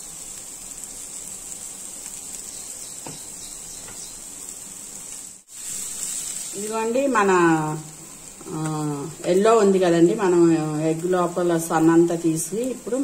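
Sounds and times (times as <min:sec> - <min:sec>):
onion sizzling in a pan: 0:00.0 - 0:13.0.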